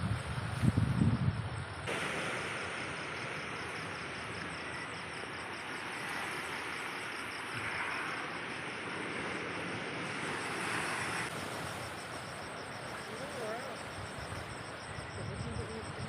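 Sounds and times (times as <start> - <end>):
crickets chirping: 0.0 - 16.0
steady outdoor hiss: 0.0 - 16.0.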